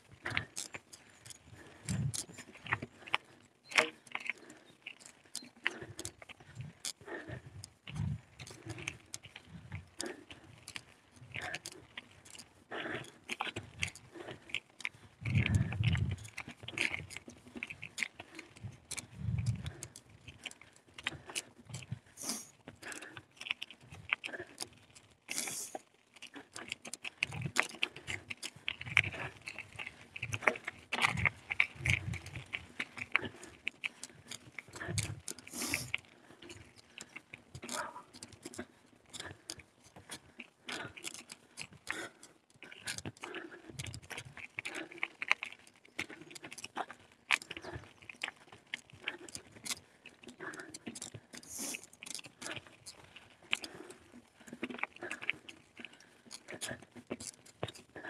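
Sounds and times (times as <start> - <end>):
bike rattling over rough trail: 0.0 - 56.5.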